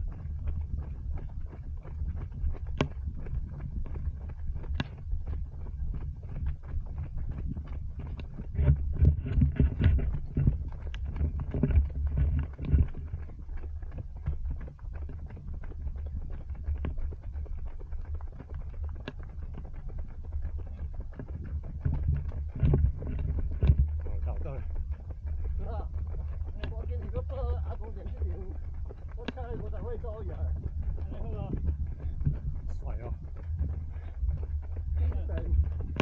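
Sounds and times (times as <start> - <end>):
running footsteps: 0.0 - 36.0
wind rumble on microphone: 0.0 - 36.0.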